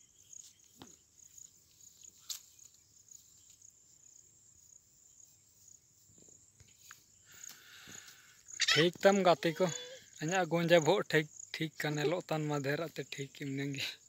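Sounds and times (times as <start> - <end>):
insect chirping trill: 0.0 - 14.0.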